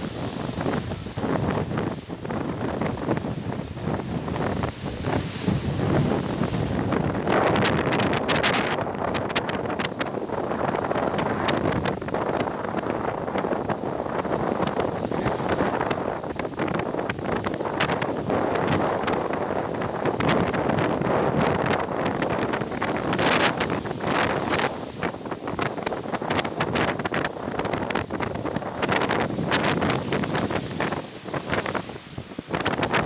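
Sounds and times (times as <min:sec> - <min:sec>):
sea surf washing: 0:00.0 - 0:33.0
wind buffeting microphone: 0:00.0 - 0:33.0.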